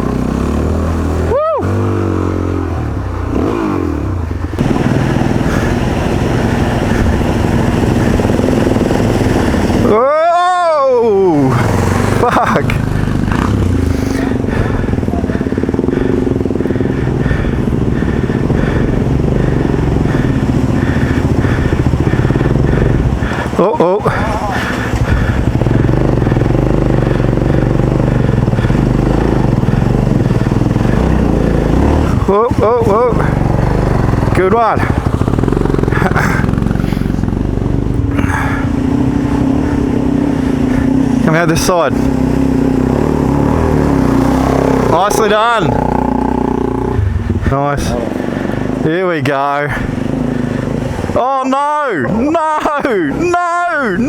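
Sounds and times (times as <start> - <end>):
off-road motorcycle engine revving: 0.0 - 54.0.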